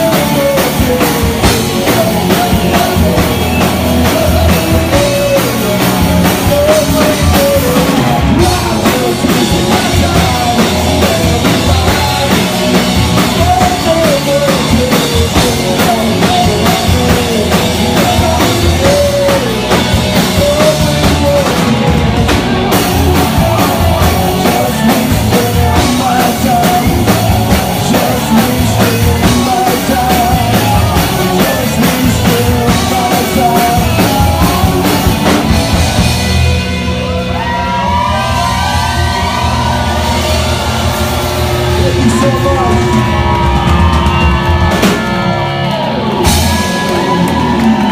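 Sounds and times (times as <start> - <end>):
person singing: 0.0 - 45.6
rock band playing live: 0.0 - 47.9.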